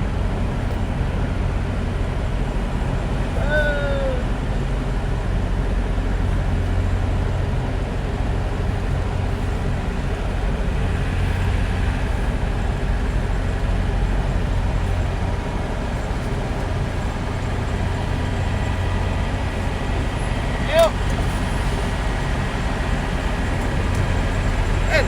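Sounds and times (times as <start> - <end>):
truck diesel engine humming: 0.0 - 25.0.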